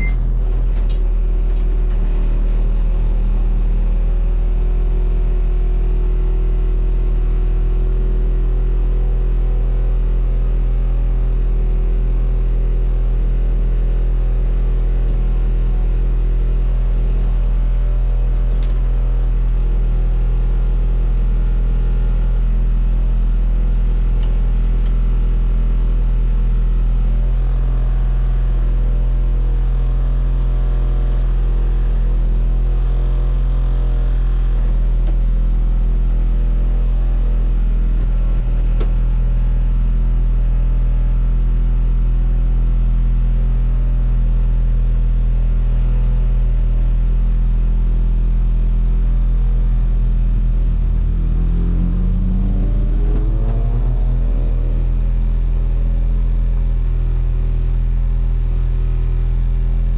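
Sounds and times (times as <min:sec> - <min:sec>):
race car engine idling: 0:00.0 - 0:59.9.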